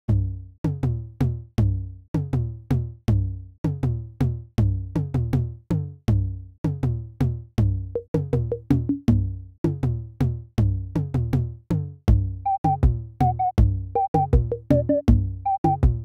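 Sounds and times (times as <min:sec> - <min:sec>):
drum machine beat with deep bass: 0:00.1 - 0:11.5, 0:12.1 - 0:16.0.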